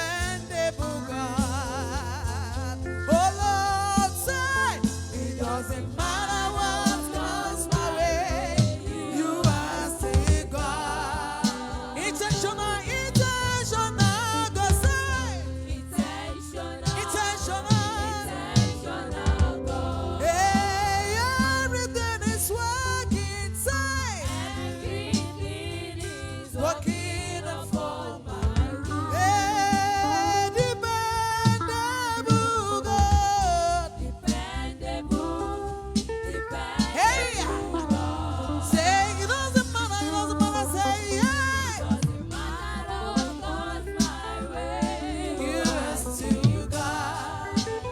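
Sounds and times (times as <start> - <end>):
instrumental backing with bass: 0.0 - 47.9
person singing gospel: 0.0 - 47.9.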